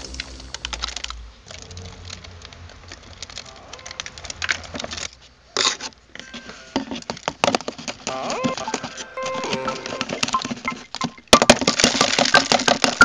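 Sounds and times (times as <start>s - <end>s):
loud plastic crackles: 0.0s - 13.0s
plastic crinkling and clicking: 0.0s - 13.0s.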